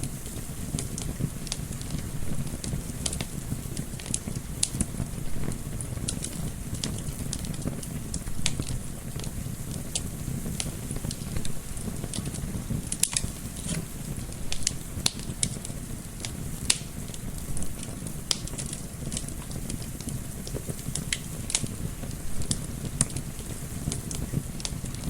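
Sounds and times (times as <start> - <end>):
sharp pops from fire: 0.0 - 25.0
wood fire crackling: 0.0 - 25.0.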